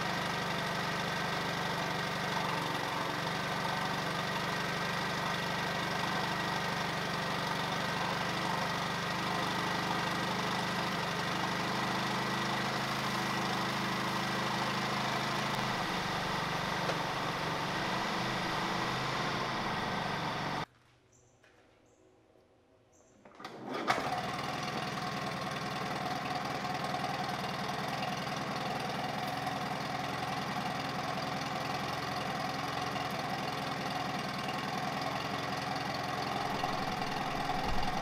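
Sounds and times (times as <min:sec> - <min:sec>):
outboard motor idling: 0:00.0 - 0:20.7, 0:24.0 - 0:38.0.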